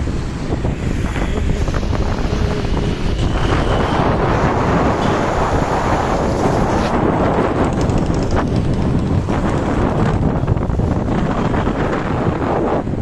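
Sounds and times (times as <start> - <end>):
bike riding noise: 0.0 - 13.0
road traffic: 0.0 - 13.0
wind buffeting microphone: 0.0 - 13.0.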